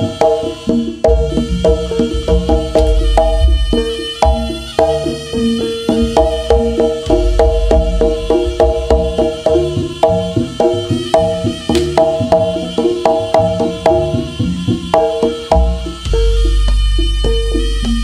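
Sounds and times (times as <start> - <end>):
deep sustained bass: 0.0 - 18.0
drumming: 0.0 - 18.0
struck tuned percussion: 0.0 - 18.0.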